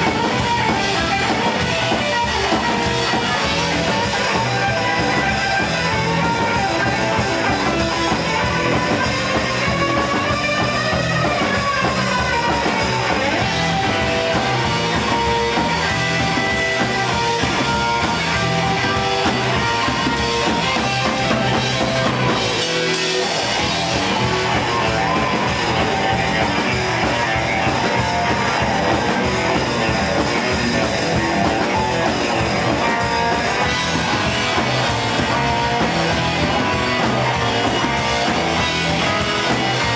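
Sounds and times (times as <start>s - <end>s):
drum kit: 0.0s - 39.9s
electric guitar: 0.0s - 39.9s
upright bass: 0.0s - 39.9s.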